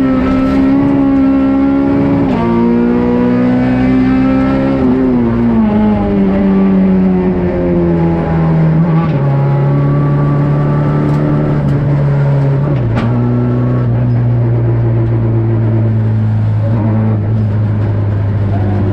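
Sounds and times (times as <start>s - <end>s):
car engine from inside cabin: 0.0s - 18.9s.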